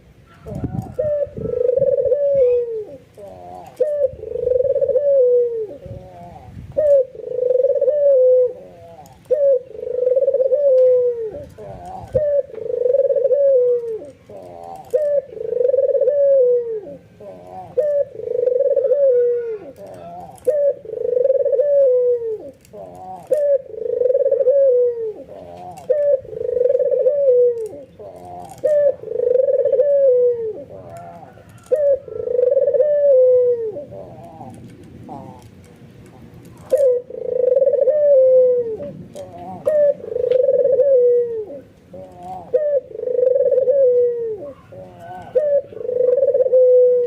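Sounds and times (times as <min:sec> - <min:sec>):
dove cooing: 0:00.0 - 0:47.0.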